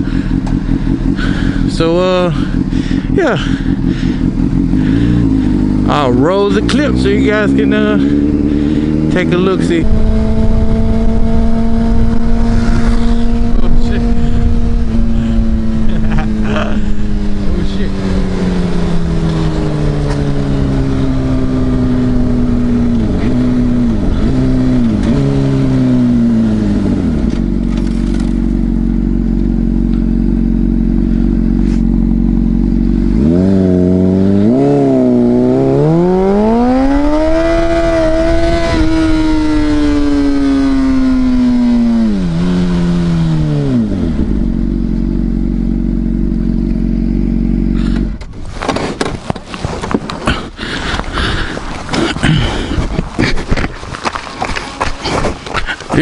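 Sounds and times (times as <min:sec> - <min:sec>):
motorcycle engine revving: 0:00.0 - 0:49.1, 0:49.7 - 0:56.0.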